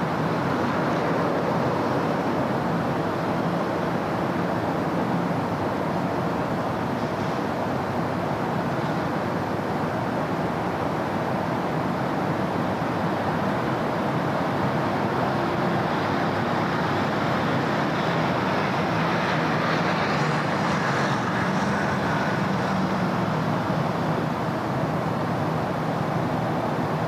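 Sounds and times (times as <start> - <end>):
passing cars: 0.0 - 27.0.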